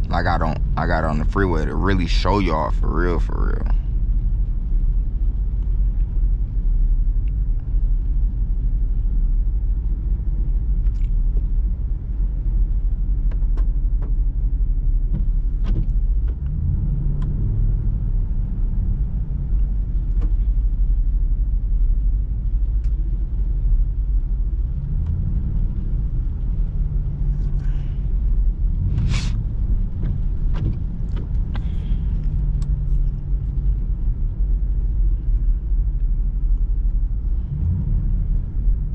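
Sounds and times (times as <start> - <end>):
car road and exhaust rumble: 0.0 - 38.9.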